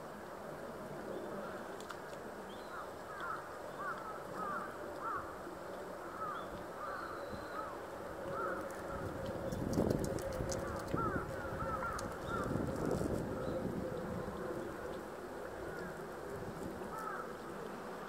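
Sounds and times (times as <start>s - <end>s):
waterbirds calling: 1.2s - 17.7s.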